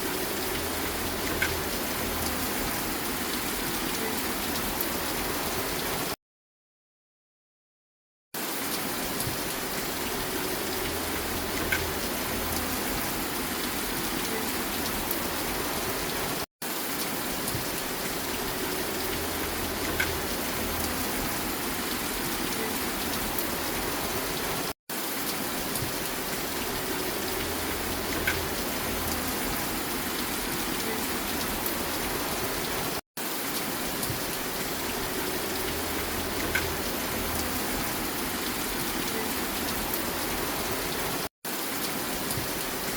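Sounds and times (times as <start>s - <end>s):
steady rain falling: 0.0s - 6.2s, 8.4s - 42.9s.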